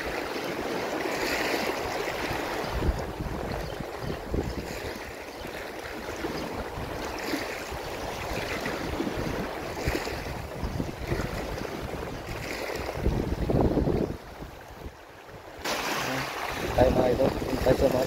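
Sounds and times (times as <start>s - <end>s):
wind buffeting microphone: 0.0s - 5.4s, 6.0s - 18.0s
water lapping and splashing: 0.0s - 18.0s.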